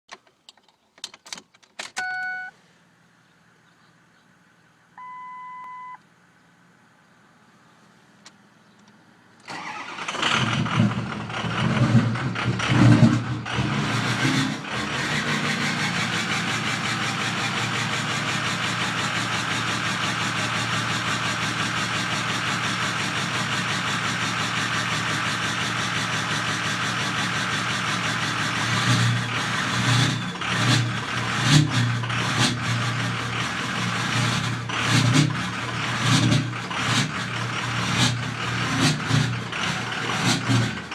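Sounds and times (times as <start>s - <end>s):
diesel engine cranking and idling: 8.1s - 40.9s.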